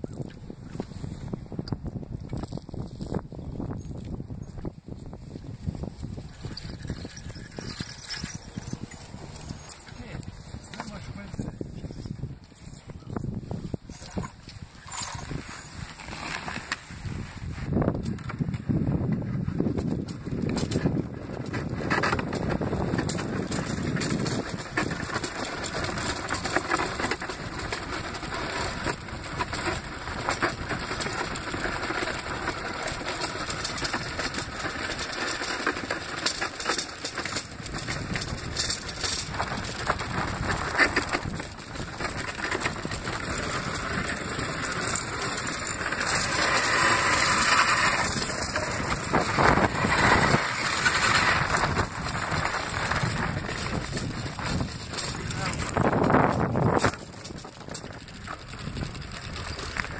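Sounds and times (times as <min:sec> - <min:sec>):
runners scraping over ice: 0:02.3 - 0:59.9.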